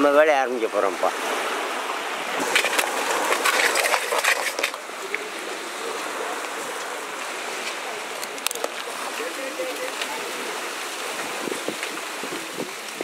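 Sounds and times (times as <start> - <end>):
wind and surf hiss: 0.0 - 13.0.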